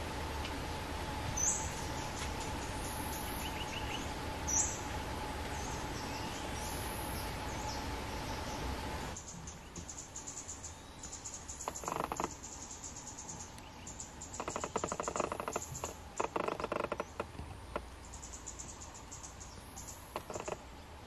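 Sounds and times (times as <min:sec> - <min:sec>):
high insect trill: 0:00.0 - 0:20.7
birds calling rattled notes: 0:00.0 - 0:21.0.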